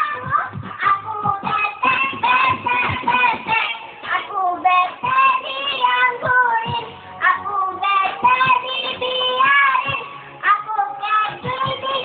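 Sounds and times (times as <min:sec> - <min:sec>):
backing music with beat: 0:00.0 - 0:12.0
person singing: 0:00.0 - 0:12.0.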